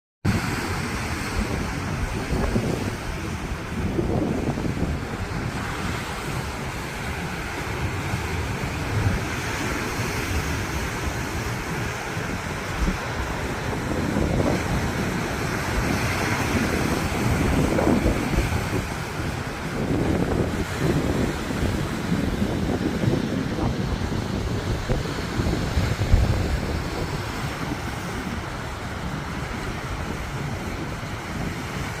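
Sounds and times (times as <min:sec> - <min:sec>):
ocean surf washing: 0:00.2 - 0:32.0
wind buffeting microphone: 0:00.2 - 0:32.0.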